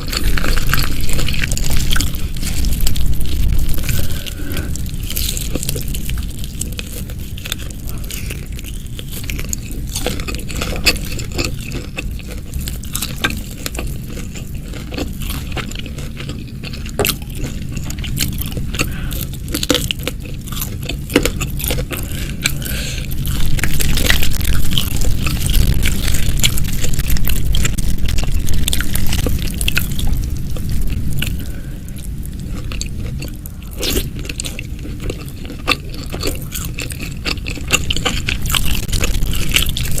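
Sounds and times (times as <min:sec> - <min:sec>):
chewing and crunching food: 0:00.0 - 0:40.0.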